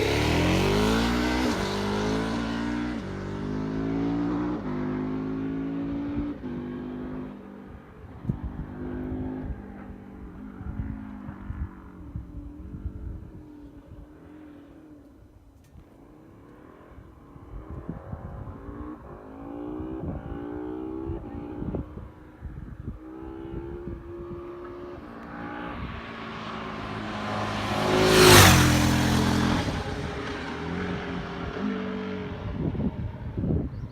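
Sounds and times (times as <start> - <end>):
motorcycle accelerating through gears: 0.0 - 33.9.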